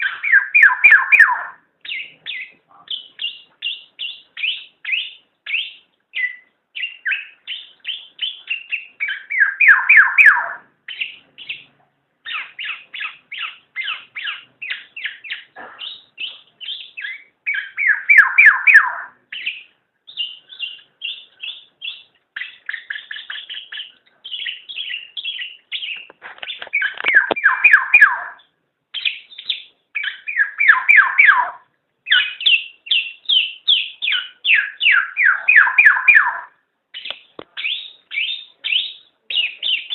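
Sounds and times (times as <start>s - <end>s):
harsh bird chatter: 0.0s - 39.9s.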